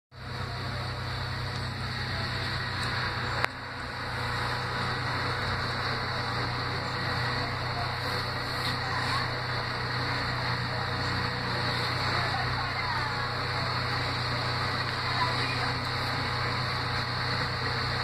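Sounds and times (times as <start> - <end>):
low hum: 0.1 - 18.0.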